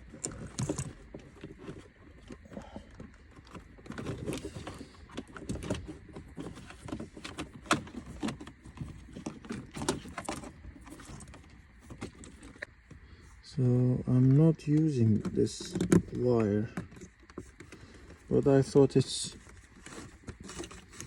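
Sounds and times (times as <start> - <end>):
rustling of wiring: 0.0 - 21.0.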